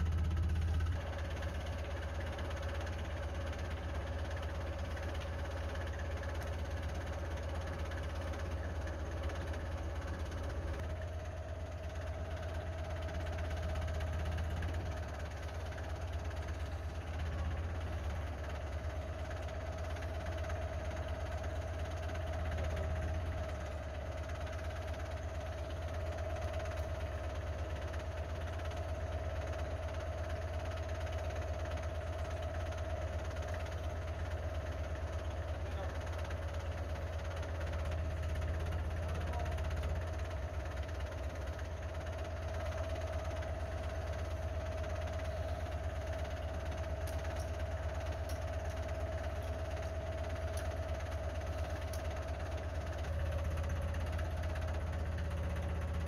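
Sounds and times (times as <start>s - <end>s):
engine rumbling: 0.0s - 56.0s
engine whine: 0.0s - 56.0s.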